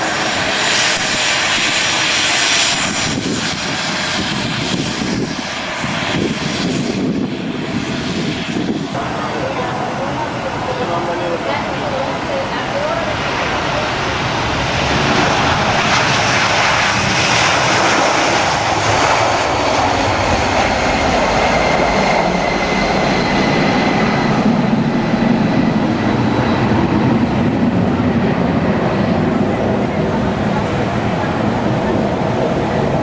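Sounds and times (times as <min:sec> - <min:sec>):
airliner engines roaring: 0:00.0 - 0:33.0.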